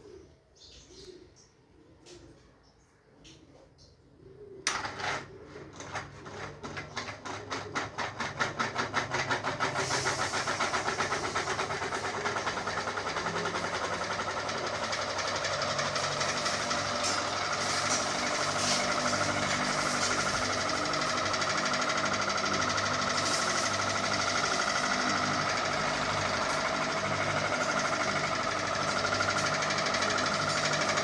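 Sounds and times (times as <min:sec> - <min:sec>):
ceiling fan whirring: 0:04.6 - 0:31.0.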